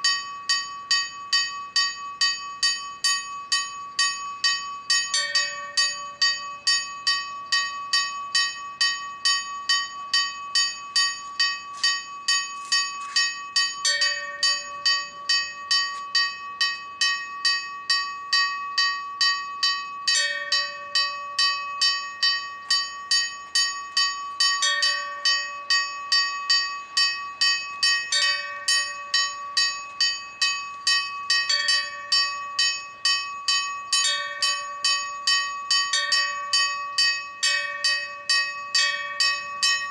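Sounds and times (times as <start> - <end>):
church bells pealing: 0.0 - 39.9
deep bell strike: 0.0 - 39.9.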